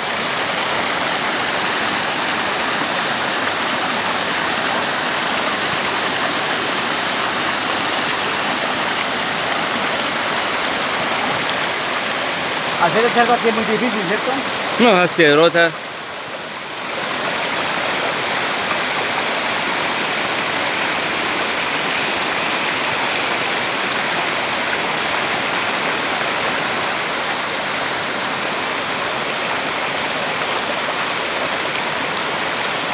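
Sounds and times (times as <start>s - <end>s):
waterfall splashing over rocks: 0.0s - 32.9s.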